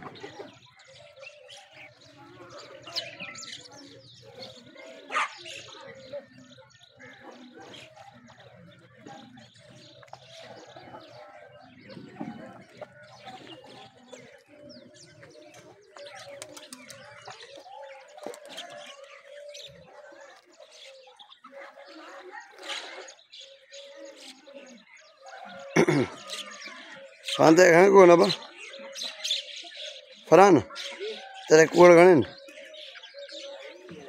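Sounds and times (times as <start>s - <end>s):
doves cooing: 0.0s - 34.0s
small birds chirping: 0.0s - 34.0s.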